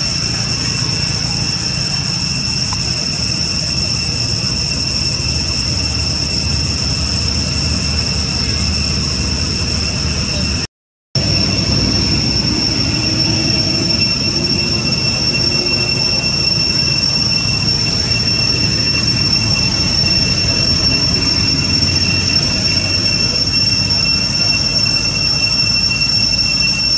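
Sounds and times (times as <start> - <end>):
low rumble: 0.0 - 25.0
high-pitched whine: 0.0 - 26.9.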